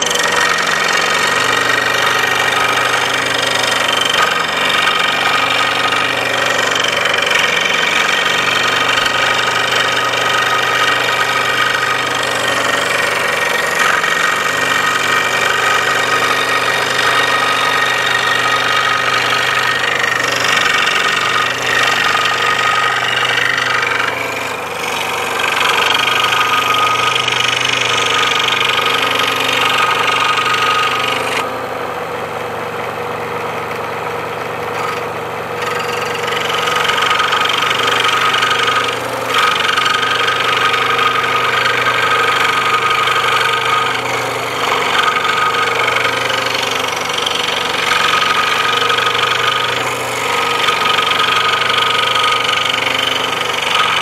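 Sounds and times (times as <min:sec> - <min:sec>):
saw blade cutting plywood: 0:00.0 - 0:54.0
scroll saw motor hum: 0:00.0 - 0:54.0.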